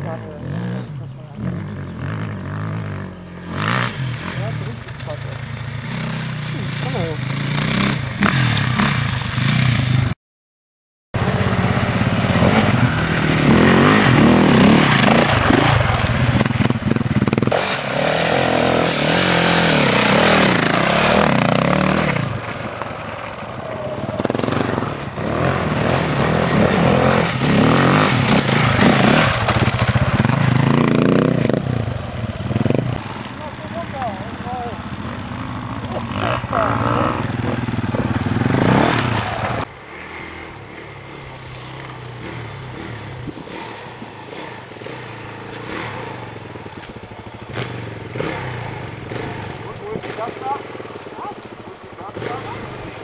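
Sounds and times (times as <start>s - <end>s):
motorcycle engine revving: 0.0s - 10.2s, 11.2s - 53.0s.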